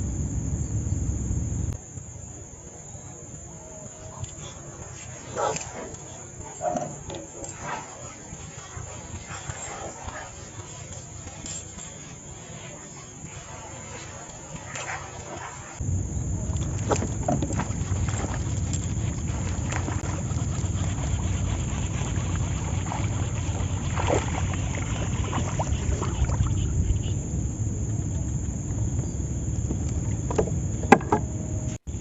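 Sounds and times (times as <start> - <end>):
boat engine rumble: 0.0 - 32.0.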